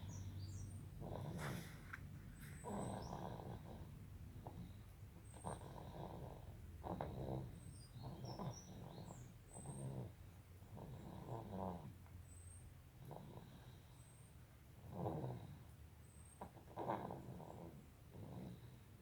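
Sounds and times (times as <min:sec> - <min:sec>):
faint snoring: 0:00.0 - 0:12.0, 0:13.0 - 0:14.2, 0:14.8 - 0:19.0.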